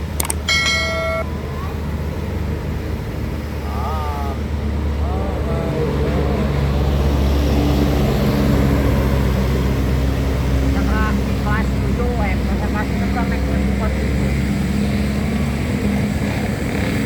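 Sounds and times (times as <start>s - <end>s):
bus engine rumbling: 0.0s - 17.0s
voices calling out: 0.0s - 17.0s.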